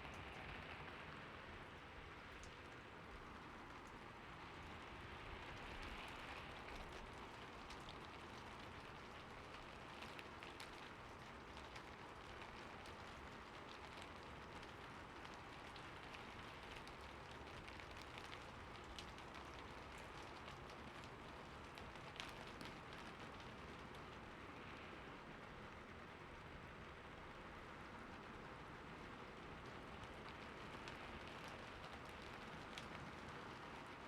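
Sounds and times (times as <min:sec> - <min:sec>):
quiet steady rain: 0:00.0 - 0:34.0.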